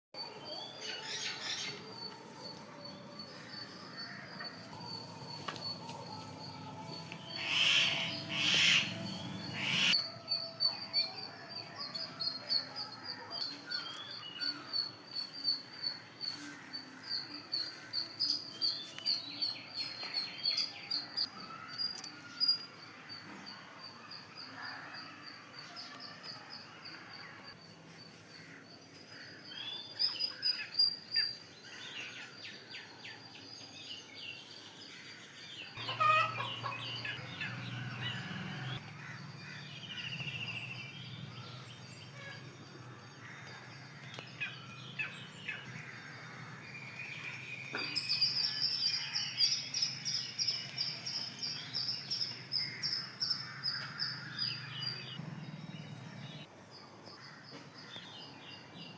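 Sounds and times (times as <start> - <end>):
birds chirping: 0.2 - 58.9.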